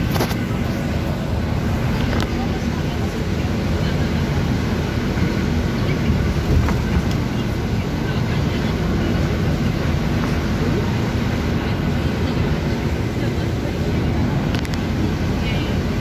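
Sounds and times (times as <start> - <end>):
trolleybus rumble: 0.0 - 16.0.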